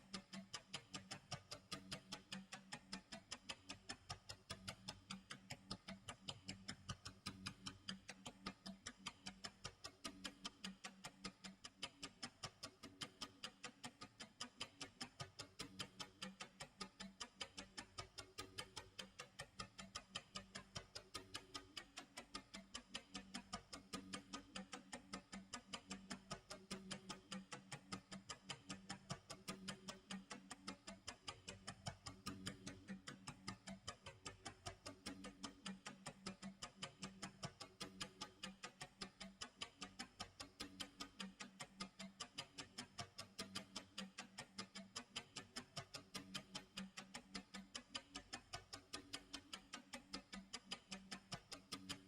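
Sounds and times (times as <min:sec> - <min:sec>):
clock ticking: 0:00.0 - 0:52.0.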